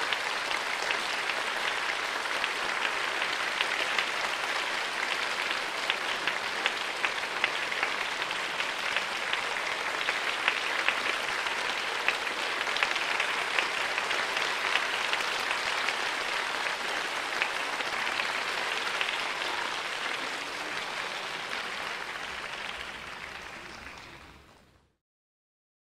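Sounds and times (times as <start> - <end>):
audience applauding: 0.0 - 24.8.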